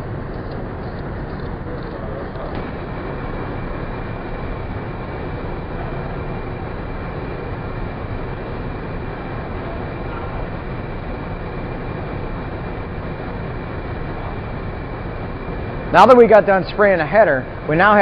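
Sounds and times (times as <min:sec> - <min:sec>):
ventilation rushing air and machinery: 0:00.0 - 0:18.0.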